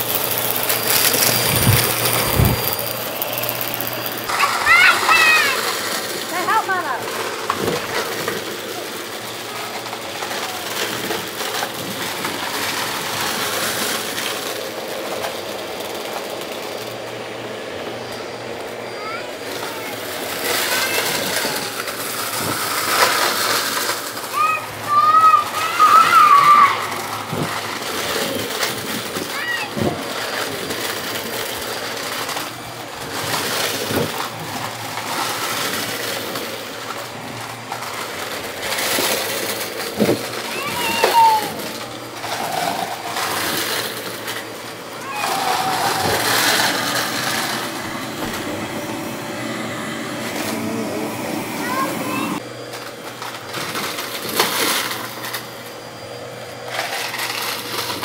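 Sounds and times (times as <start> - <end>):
vacuum brush roll crunching debris: 0.0 - 58.0
vacuum motor humming: 0.0 - 58.0.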